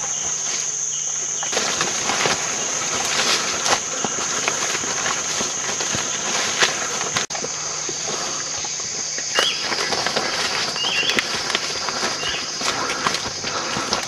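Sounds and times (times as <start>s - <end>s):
footsteps on forest trail: 0.0s - 14.0s
high insect drone: 0.0s - 14.0s
leaves rustling in undergrowth: 0.2s - 14.0s.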